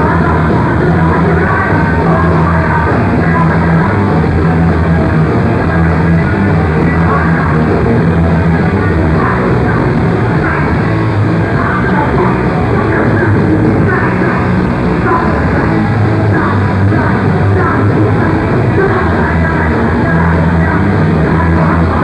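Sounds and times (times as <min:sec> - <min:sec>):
punk band playing live: 0:00.0 - 0:22.0.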